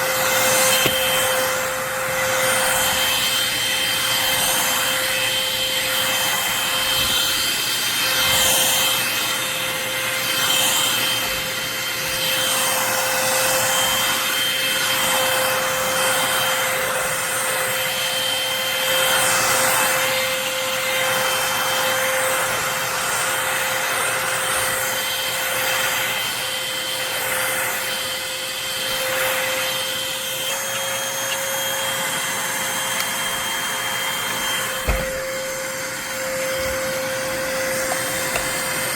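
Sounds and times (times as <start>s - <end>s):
stick vacuum running on floor: 0.0s - 38.9s.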